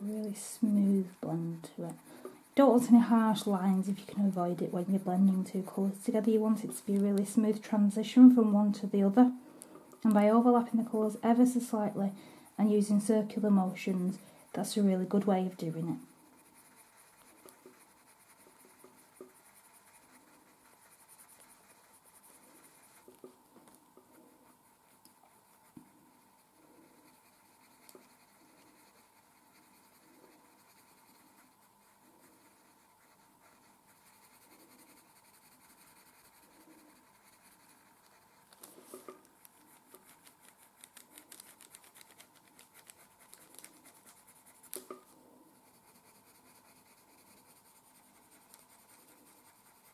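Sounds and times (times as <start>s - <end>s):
pencil scratching on paper: 0.0s - 9.4s, 10.0s - 49.9s.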